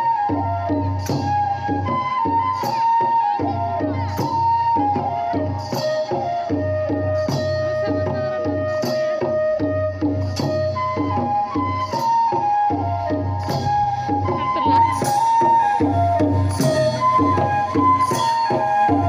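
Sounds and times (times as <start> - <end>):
flute melody: 0.0 - 19.0
steady drum beat: 0.0 - 19.0.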